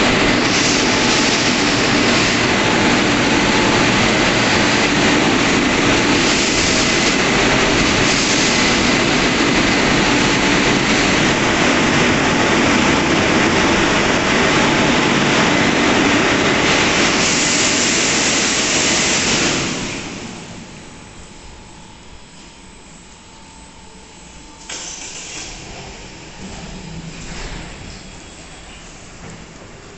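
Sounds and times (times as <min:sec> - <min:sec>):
car wash dryer blowers: 0:00.0 - 0:29.9.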